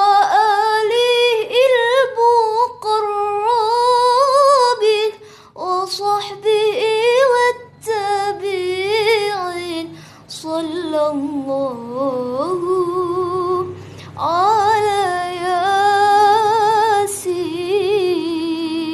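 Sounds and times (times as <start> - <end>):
woman singing devotional song: 0.0 - 18.9.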